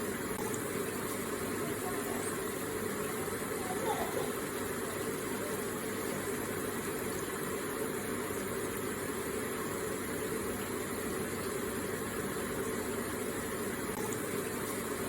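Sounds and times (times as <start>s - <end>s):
water feature trickling: 0.0s - 15.0s.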